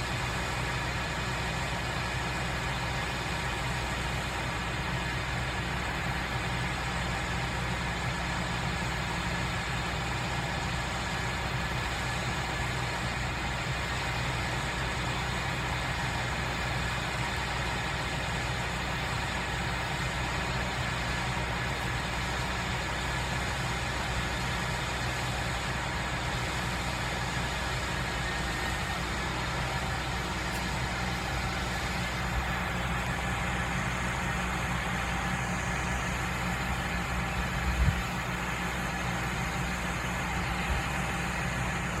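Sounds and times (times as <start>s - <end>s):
engine running with low hum: 0.0s - 42.0s.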